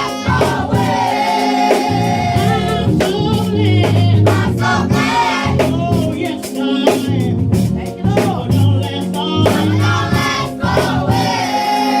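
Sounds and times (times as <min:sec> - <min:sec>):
singers: 0:00.0 - 0:07.3, 0:08.2 - 0:12.0
band with bass drums and guitar: 0:00.0 - 0:11.4.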